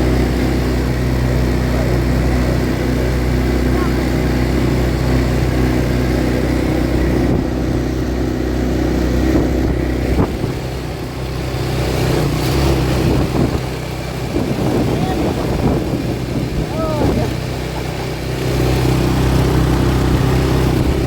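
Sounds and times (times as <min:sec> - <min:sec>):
atv engine droning: 0:00.0 - 0:21.0
engine knock: 0:00.0 - 0:21.0.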